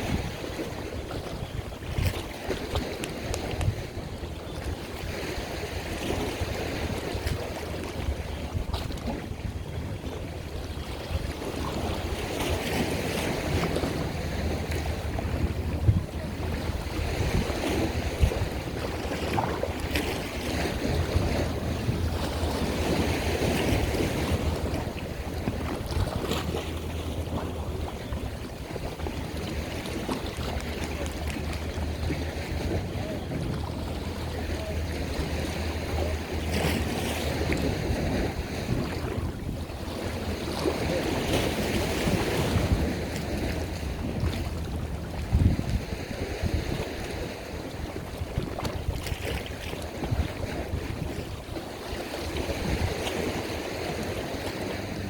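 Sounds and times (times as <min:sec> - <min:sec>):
water lapping in swells: 0:00.0 - 0:55.0
wind buffeting microphone: 0:00.0 - 0:55.0.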